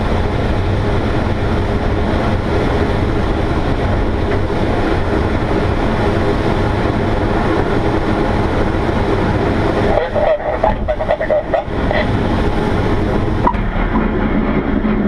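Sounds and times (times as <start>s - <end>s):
glider wheel rumbling on runway: 0.0s - 15.0s.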